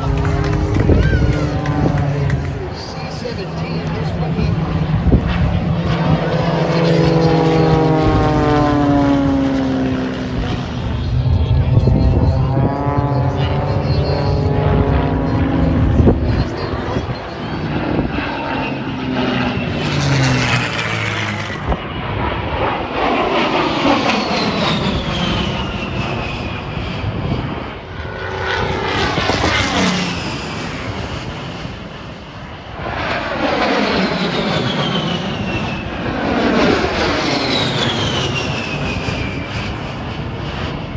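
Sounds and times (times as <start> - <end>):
propeller airplane passing by: 0.0 - 40.9.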